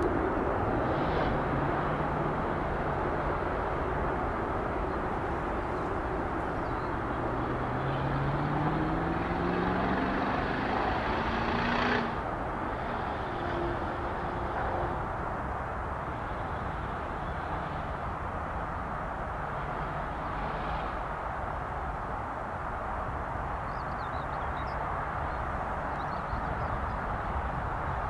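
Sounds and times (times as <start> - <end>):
road vehicle accelerating: 0.0 - 22.6
distant jet engines roaring: 0.0 - 28.0.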